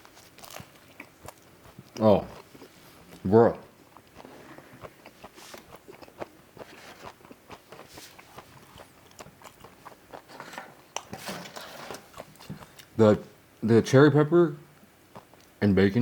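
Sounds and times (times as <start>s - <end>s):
person chewing food: 0.0s - 11.2s, 11.9s - 13.0s, 15.0s - 15.6s.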